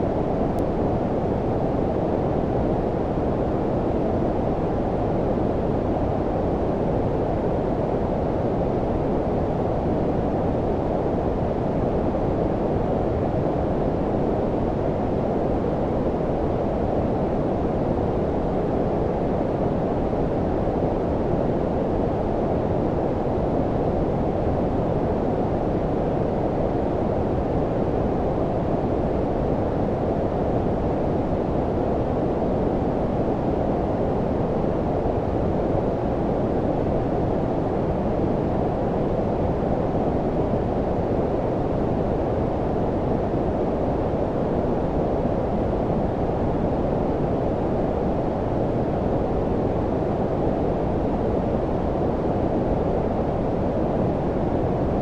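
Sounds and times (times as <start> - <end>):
low filtered white noise: 0.0 - 55.0.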